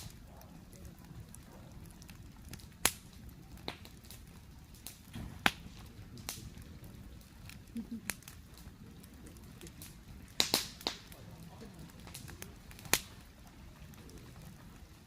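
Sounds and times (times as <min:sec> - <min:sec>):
fire crackles and pops: 0:00.0 - 0:15.0
flame rushing: 0:00.0 - 0:15.0.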